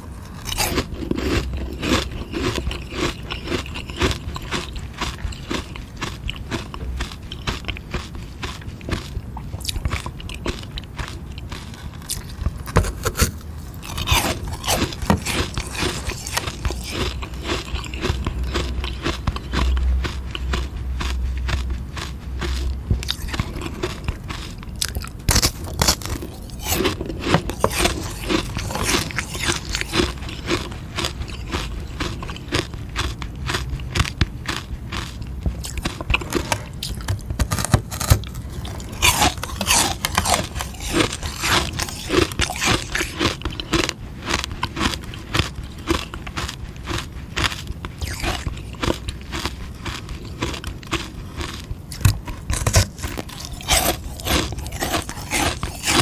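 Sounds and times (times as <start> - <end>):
crunching ice pop: 0.0 - 56.0.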